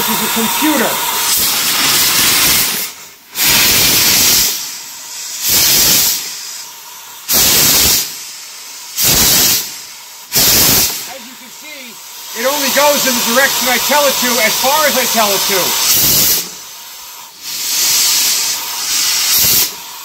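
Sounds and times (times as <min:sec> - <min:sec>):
loud bursts of steam hiss: 0:00.0 - 0:20.0
steam engine hissing: 0:00.0 - 0:20.0.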